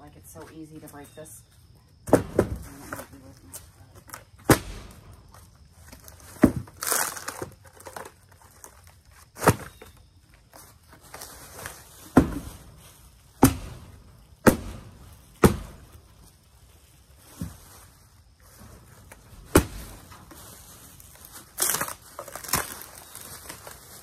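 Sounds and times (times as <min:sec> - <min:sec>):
crumbling rustle: 0:02.6 - 0:24.0.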